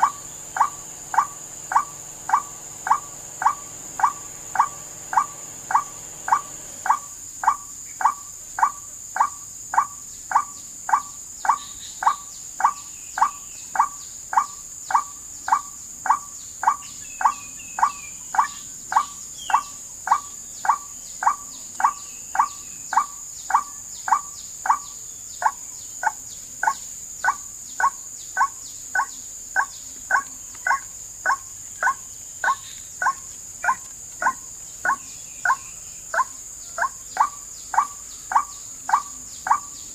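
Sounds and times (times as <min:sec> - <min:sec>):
waterhen call: 0:00.0 - 0:24.8, 0:25.4 - 0:39.8
high insect drone: 0:00.0 - 0:39.9.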